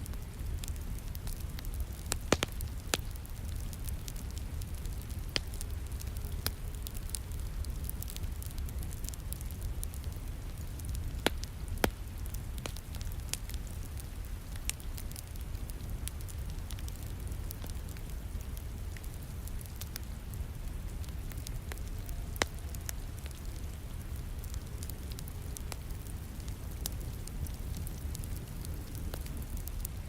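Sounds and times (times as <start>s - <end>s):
rain rumble and hiss: 0.0s - 30.0s
wood fire crackling in a fireplace: 0.0s - 30.0s.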